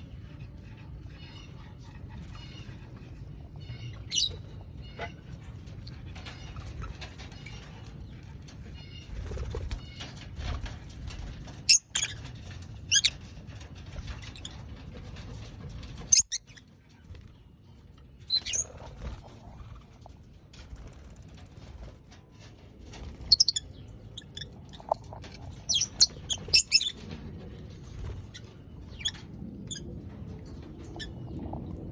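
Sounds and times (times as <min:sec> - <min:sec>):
lovebirds chirping: 0:00.0 - 0:14.6, 0:15.7 - 0:20.1, 0:22.9 - 0:29.9.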